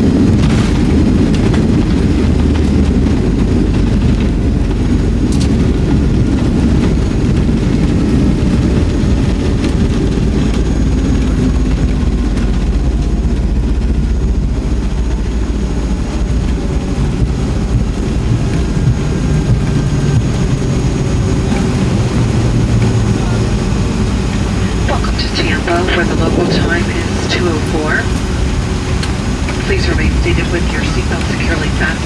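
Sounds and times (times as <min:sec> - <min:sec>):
airliner rumble from inside cabin: 0:00.0 - 0:32.0.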